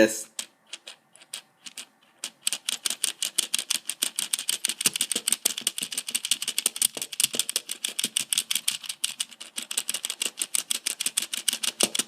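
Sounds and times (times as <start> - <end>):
rapid mechanical clicking: 0.7 - 12.0.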